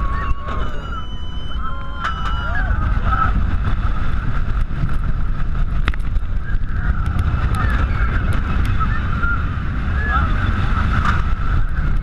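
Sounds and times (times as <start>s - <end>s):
roller coaster train rumbling: 0.0s - 12.0s
wind buffeting microphone: 0.0s - 12.0s.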